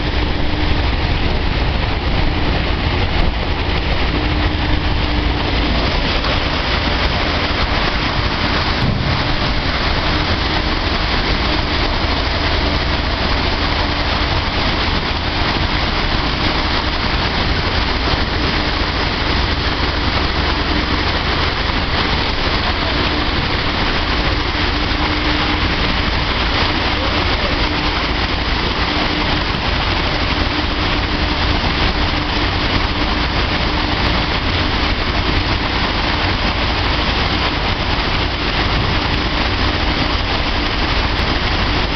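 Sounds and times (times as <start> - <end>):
dryer running: 0.0 - 41.9.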